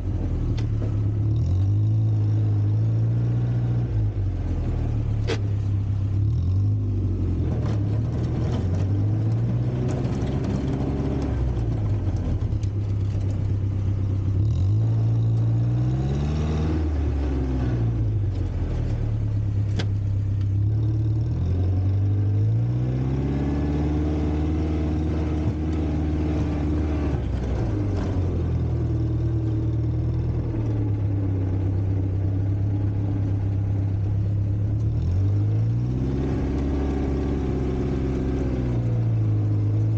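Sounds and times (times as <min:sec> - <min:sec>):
engine revving: 0:00.0 - 0:13.2, 0:14.2 - 0:39.9.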